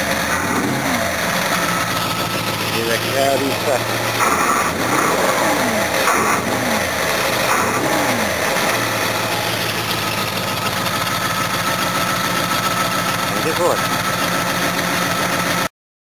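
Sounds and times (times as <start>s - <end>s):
car engine idling: 0.0s - 15.7s.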